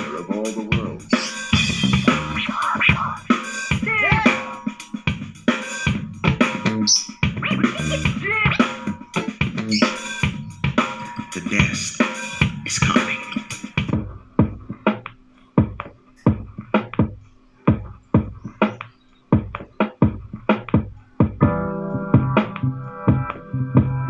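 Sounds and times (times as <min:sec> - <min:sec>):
music with drum-kit beat: 0:00.0 - 0:24.0.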